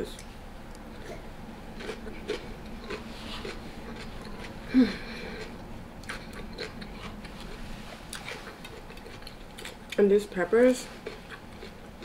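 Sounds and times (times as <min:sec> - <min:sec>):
person chewing food: 0:00.2 - 0:10.0, 0:10.9 - 0:12.0.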